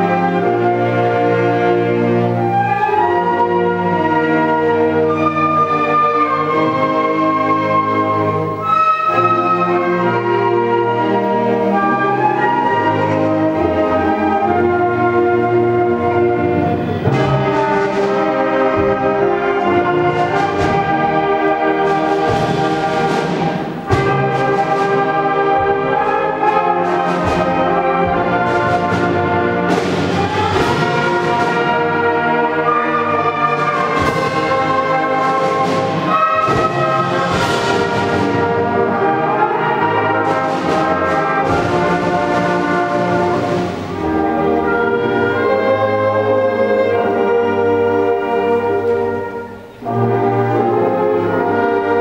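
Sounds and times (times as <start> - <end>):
concert band playing: 0.0 - 52.0.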